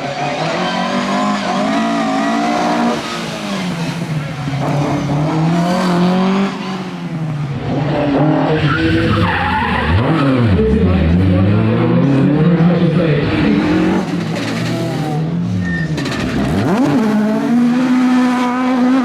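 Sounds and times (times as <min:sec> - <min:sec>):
tyres squealing and skidding: 0:00.0 - 0:11.3, 0:13.5 - 0:18.1
car engine revving: 0:00.0 - 0:19.0.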